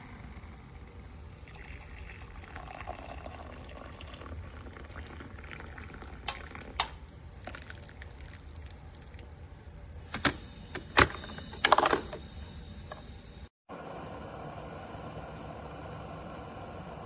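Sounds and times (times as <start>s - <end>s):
electric kettle rumbling: 0.0s - 17.0s.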